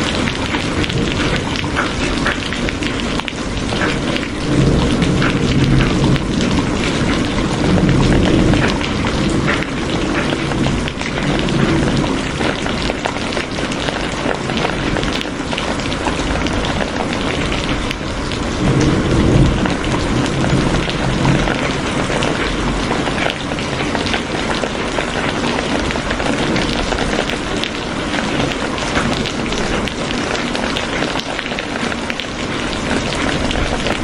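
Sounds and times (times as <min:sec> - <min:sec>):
heavy rain: 0:00.0 - 0:34.0.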